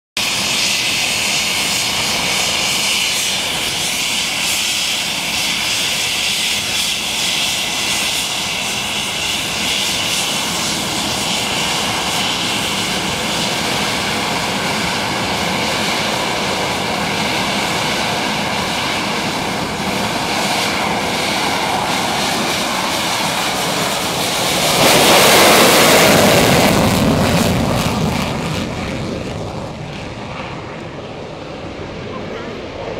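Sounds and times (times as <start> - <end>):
jet engines with high whine: 0.2 - 32.9.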